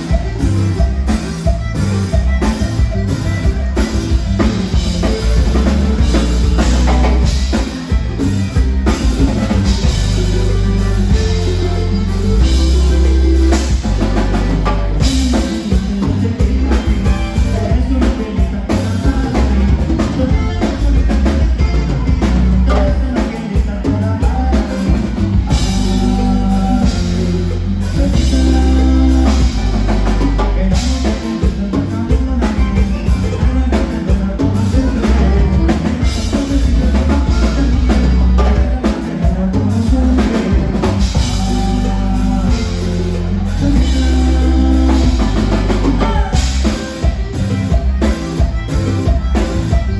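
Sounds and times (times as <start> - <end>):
bajo sexto strumming: 0.0 - 49.9
button accordion: 0.0 - 49.9
drum kit steady beat: 0.0 - 49.9
electric bass: 0.0 - 49.9.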